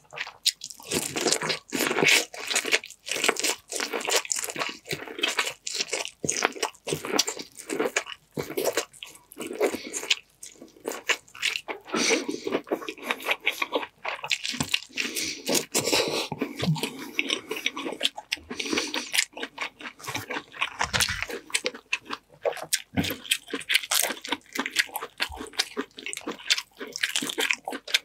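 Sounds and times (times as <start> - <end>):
wet chewing and crunching: 0.0 - 28.0.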